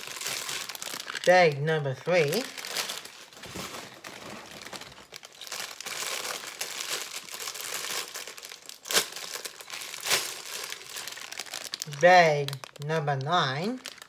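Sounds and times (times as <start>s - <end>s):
plastic bags crinkling and rustling: 0.0s - 14.0s.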